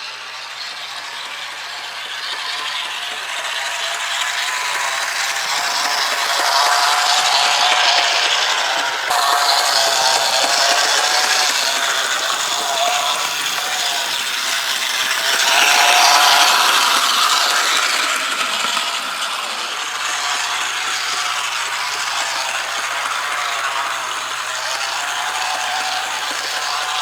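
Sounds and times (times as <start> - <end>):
model train motor whirring: 0.0 - 27.0.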